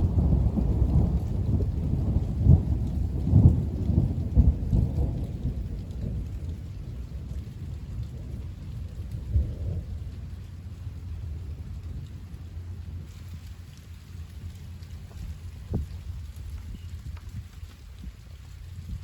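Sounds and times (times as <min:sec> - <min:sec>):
rolling thunder: 0:00.0 - 0:17.5.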